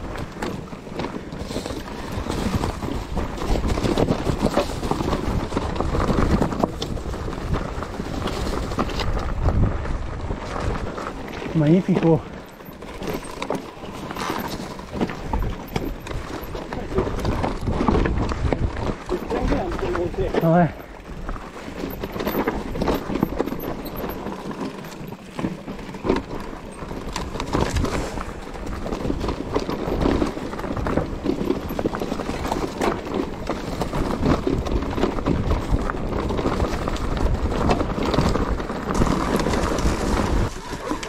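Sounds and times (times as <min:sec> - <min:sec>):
bike rattling: 0:00.0 - 0:41.0
tyres crunching over stones: 0:00.0 - 0:41.0.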